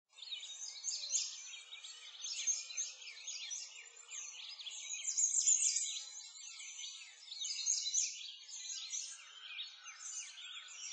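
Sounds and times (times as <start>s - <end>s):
songbirds chirping and trilling: 0.1s - 10.9s.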